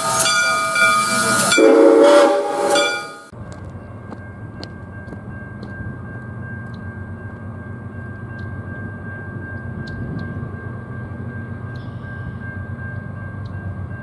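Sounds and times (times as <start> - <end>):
distant train rumble: 0.0 - 14.0
steady high tone: 0.0 - 14.0.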